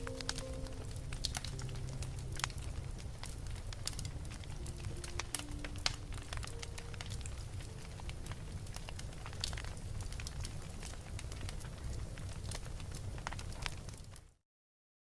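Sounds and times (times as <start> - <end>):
low rumble of flames: 0.0 - 14.4
wood fire crackling: 0.0 - 14.4.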